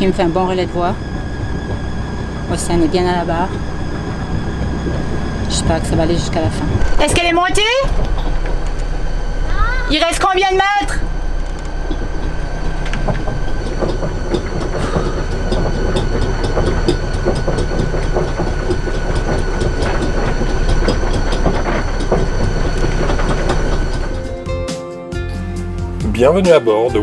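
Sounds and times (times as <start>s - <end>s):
anchor chain clanking and rattling: 0.0s - 24.4s
steady mechanical hum: 0.0s - 24.5s.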